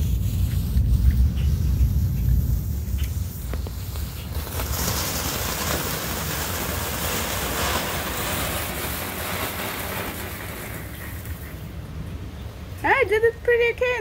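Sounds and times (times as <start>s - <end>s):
firework fountain hissing: 0.0s - 13.6s
wind rumble on microphone: 0.0s - 14.0s.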